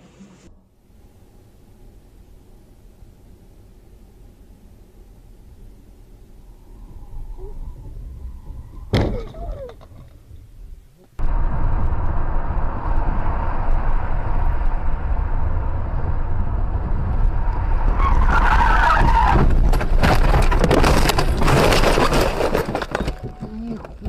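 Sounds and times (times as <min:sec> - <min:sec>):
car road noise: 0:00.0 - 0:24.0.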